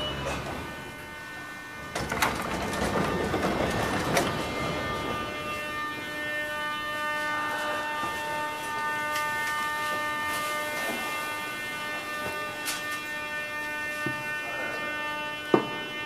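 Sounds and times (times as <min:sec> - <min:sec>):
train electrical whine: 0:00.0 - 0:16.0.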